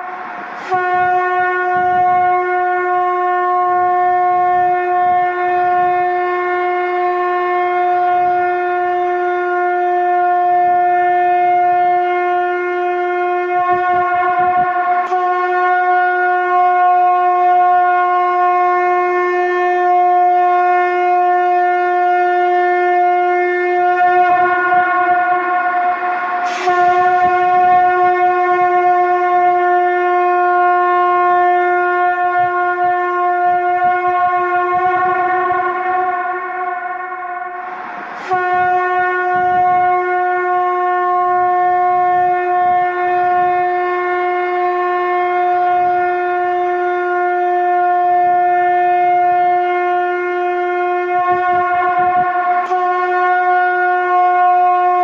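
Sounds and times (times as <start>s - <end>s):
conch shell blasts: 0.0s - 55.0s.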